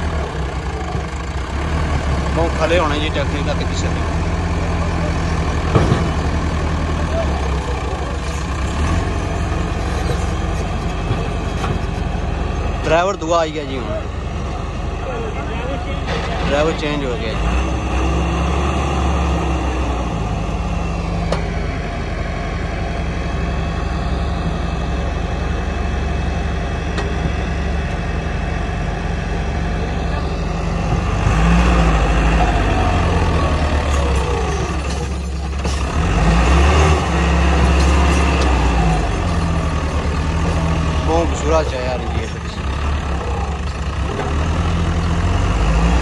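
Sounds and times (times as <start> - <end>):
tractor engine labouring: 0.0 - 46.0.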